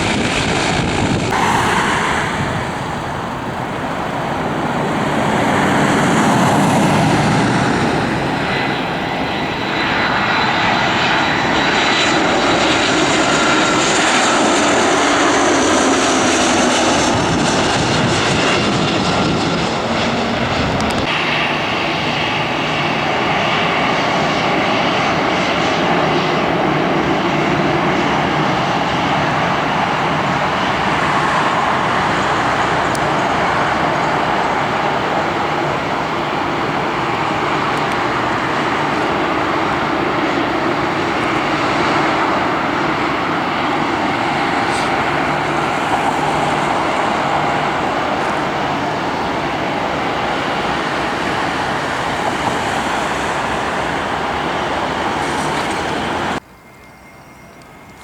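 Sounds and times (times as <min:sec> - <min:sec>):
airliner engines running: 0:00.0 - 0:58.0.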